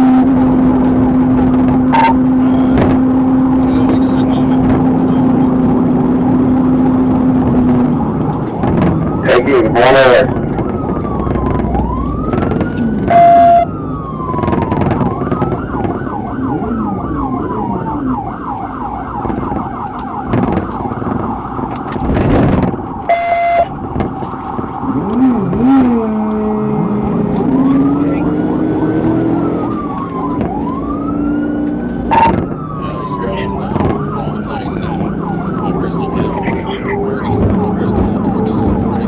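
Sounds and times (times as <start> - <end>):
police siren wailing and yelping: 0.0 - 3.1, 7.1 - 39.0
loud siren blasts: 0.0 - 39.0
patrol car engine running: 0.0 - 39.0.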